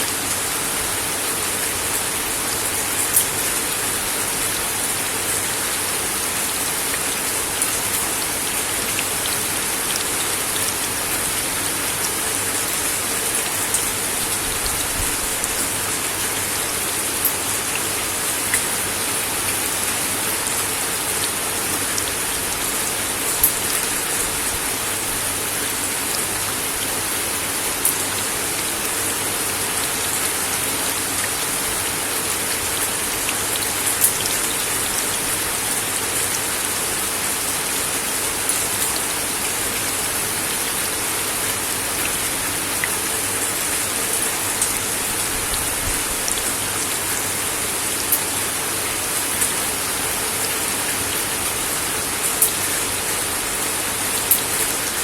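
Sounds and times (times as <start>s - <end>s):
rain on wooden deck: 0.0s - 55.0s
raindrops striking close by: 0.1s - 55.0s.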